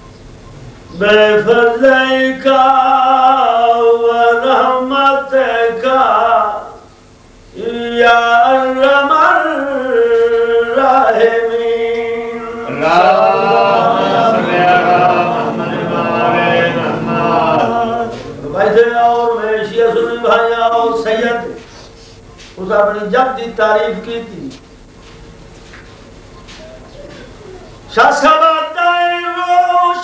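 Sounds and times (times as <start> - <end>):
man chanting into a microphone: 0.9 - 6.9, 7.5 - 21.8, 22.6 - 24.6, 27.9 - 30.0.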